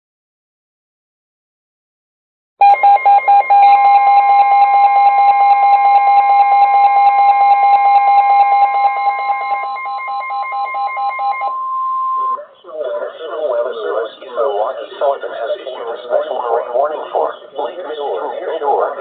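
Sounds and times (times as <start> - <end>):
fast beeping alarms: 2.6 - 18.8
steady weather radio alert tone: 2.6 - 19.0.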